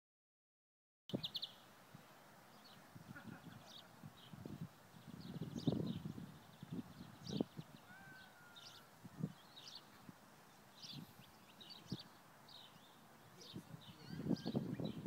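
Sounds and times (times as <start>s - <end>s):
small birds chirping: 1.1s - 15.0s.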